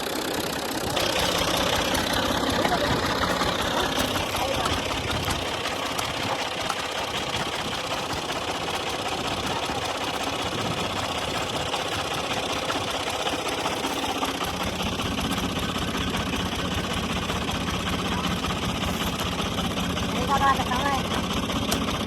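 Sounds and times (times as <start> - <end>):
combine harvester diesel engine: 0.0 - 22.0.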